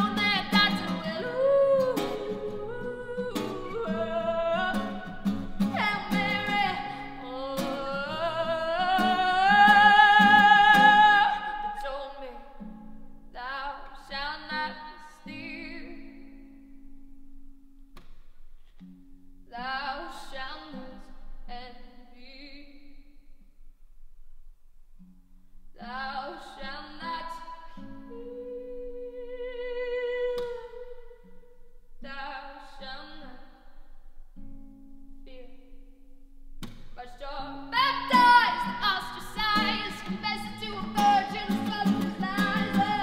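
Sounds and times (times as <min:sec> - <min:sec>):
woman singing: 0:00.0 - 0:16.8, 0:19.5 - 0:23.3, 0:25.8 - 0:33.9, 0:35.2 - 0:36.0, 0:37.0 - 0:43.0
acoustic guitar: 0:00.0 - 0:43.0.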